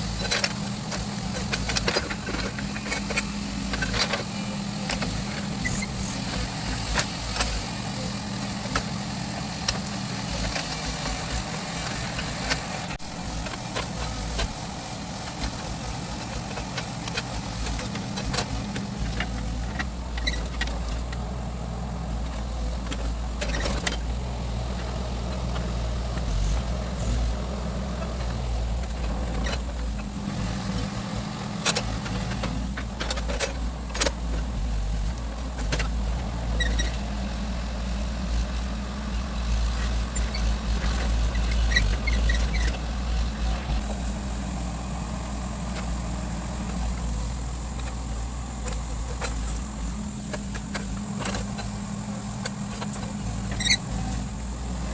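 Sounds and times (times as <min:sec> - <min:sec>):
diesel engine low drone: 0:00.0 - 0:54.9.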